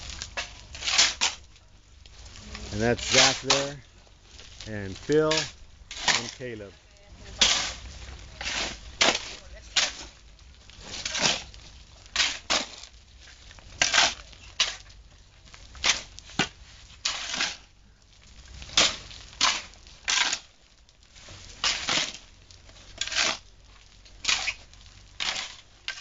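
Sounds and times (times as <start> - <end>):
shovels scraping sand and cement: 0.0 - 15.0, 15.6 - 17.8, 18.4 - 26.0.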